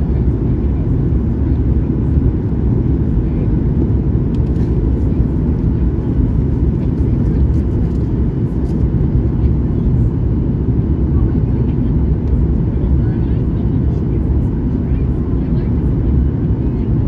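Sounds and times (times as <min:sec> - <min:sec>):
airliner cabin engine and airflow noise: 0:00.0 - 0:17.0.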